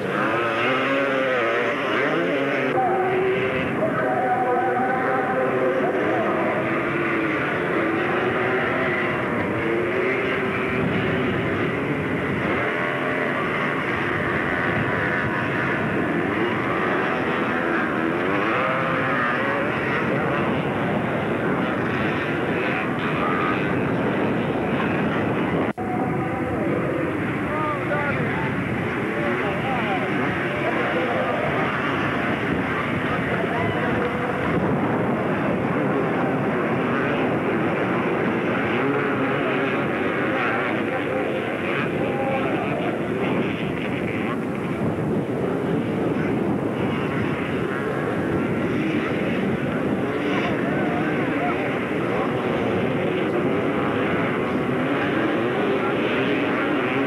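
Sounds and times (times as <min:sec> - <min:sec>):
atv engines revving: 0:00.0 - 0:57.0.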